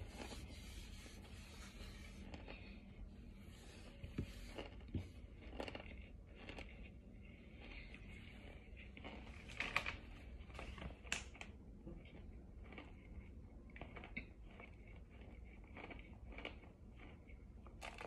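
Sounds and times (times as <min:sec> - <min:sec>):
chewing crunches: 0:02.2 - 0:03.0, 0:03.8 - 0:18.0.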